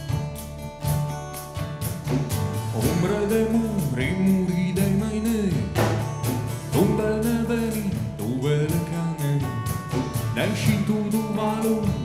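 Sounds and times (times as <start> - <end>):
acoustic guitars strumming: 0.0 - 12.0
steady percussion: 0.0 - 12.0.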